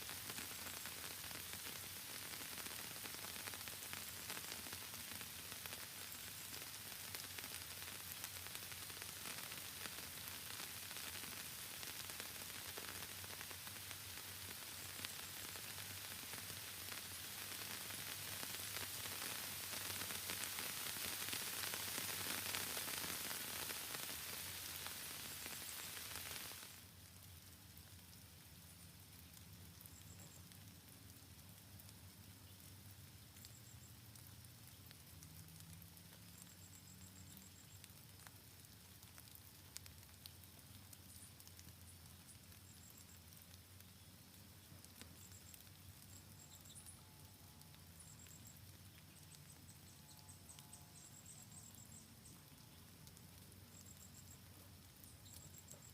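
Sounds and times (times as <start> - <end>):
rain hiss: 0.0 - 55.9.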